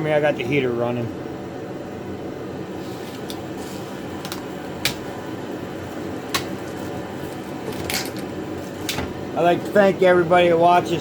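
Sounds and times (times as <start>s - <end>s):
heater fan noise: 0.0s - 11.0s.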